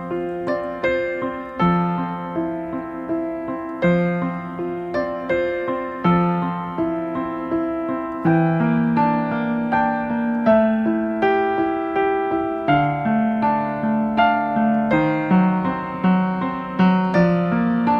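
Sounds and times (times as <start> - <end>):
held piano chords: 0.0 - 17.9
piano melody: 0.0 - 17.9.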